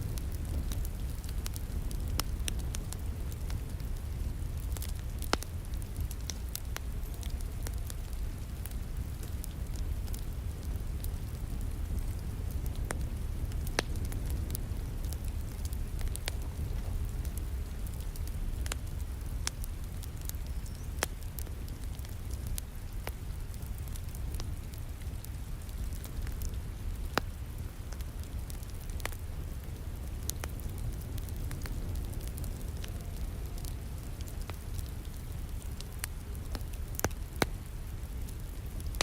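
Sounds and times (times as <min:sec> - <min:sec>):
rain: 0:00.0 - 0:39.0
wood fire crackling and popping: 0:00.0 - 0:39.0.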